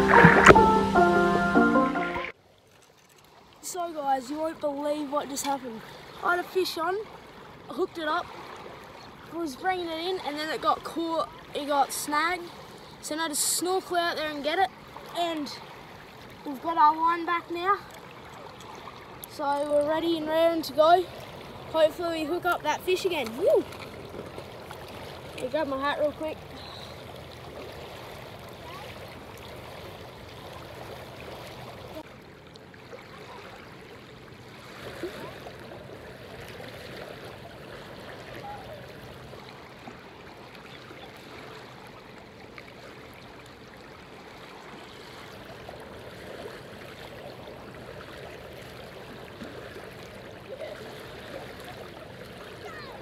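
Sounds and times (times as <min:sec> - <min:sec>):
waves lapping on pebbles: 0:00.0 - 0:00.8, 0:02.4 - 0:53.0.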